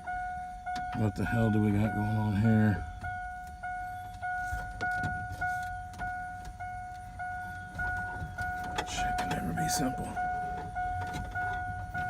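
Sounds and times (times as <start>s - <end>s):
vehicle warning chime beeping: 0.0s - 12.0s.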